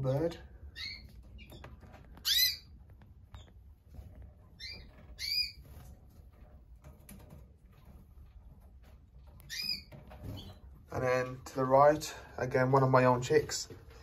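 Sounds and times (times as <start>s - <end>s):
canaries chirping: 0.0s - 6.5s, 7.1s - 12.0s.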